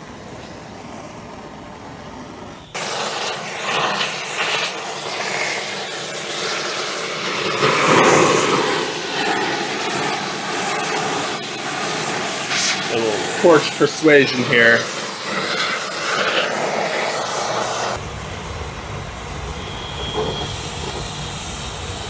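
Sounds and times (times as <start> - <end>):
torch burning with hiss: 0.0 - 22.0.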